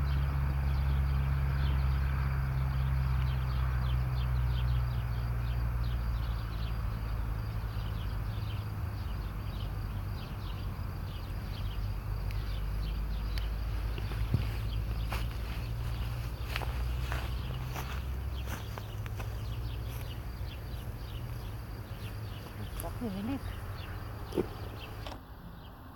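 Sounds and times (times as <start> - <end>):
low outdoor rumble: 0.0 - 25.9.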